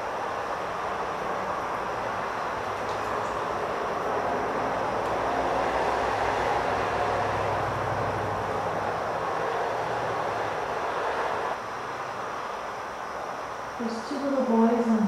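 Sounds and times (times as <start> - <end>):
steady rumbling: 0.0 - 15.0.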